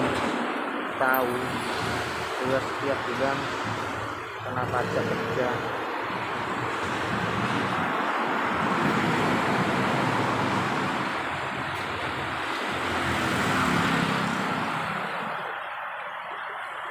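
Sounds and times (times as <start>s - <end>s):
road traffic passing: 0.0s - 16.9s
wind: 0.0s - 16.9s.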